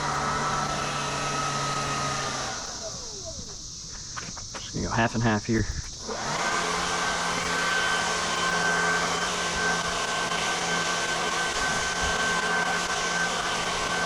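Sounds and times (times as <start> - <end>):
small motor running: 0.0 - 14.0.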